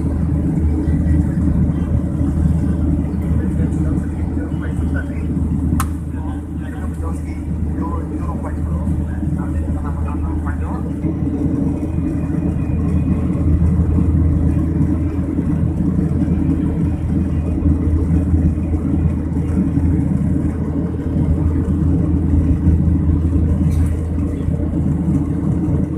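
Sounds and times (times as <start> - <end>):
jet engines and rushing air rumble: 0.0 - 25.9.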